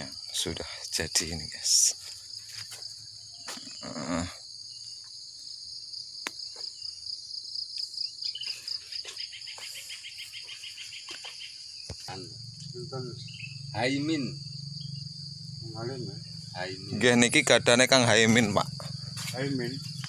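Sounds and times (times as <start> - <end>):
insect trill: 0.0 - 20.0
insects chirring: 0.0 - 20.0.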